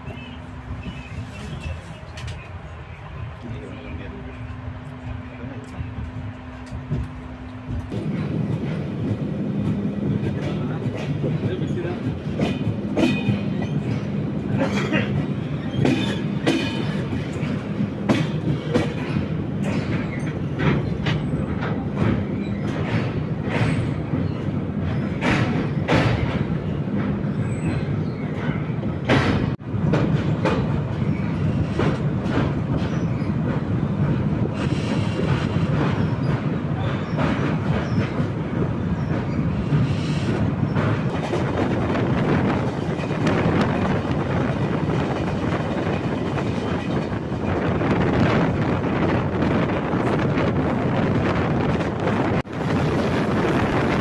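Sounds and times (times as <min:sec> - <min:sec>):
train rumbling: 0:00.0 - 0:54.0
wheels clacking over rail joints: 0:05.6 - 0:52.5.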